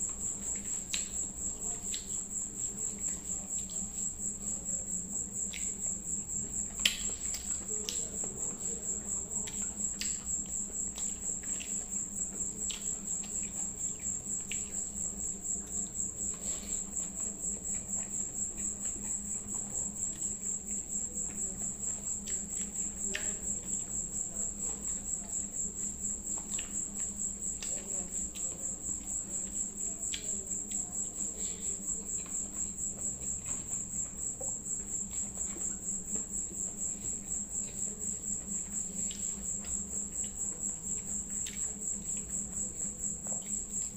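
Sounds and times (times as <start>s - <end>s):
chewing: 0.0s - 43.9s
crickets chirping: 0.0s - 43.9s.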